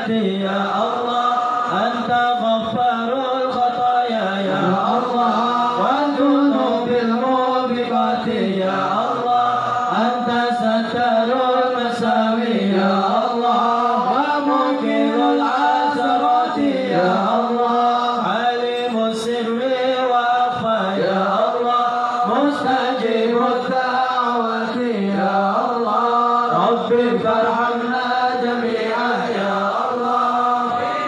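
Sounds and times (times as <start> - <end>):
men chanting devotional praise: 0.0 - 31.0.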